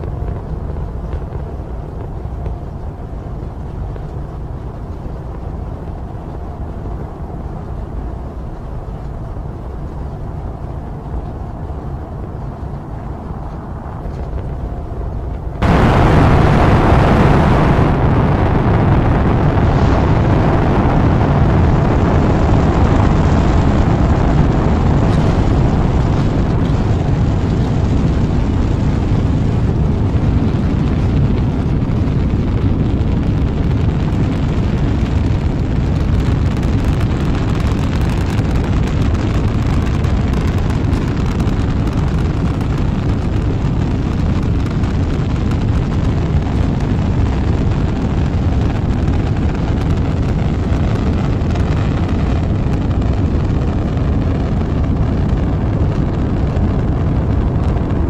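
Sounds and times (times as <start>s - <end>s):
rocket engines rumbling: 0.0s - 58.0s.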